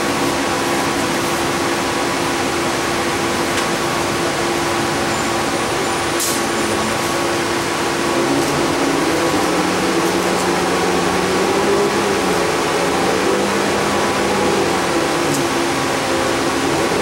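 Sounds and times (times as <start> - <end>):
bus engine drone and hiss: 0.0 - 17.0.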